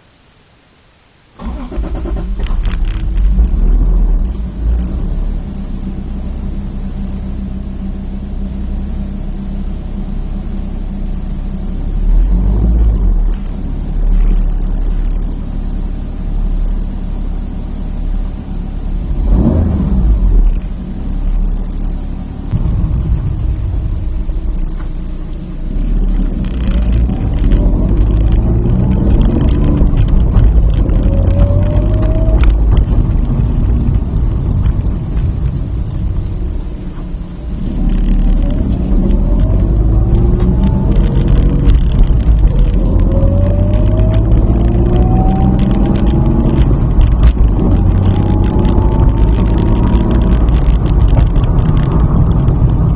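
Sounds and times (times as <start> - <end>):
car engine revving: 1.4 - 52.9.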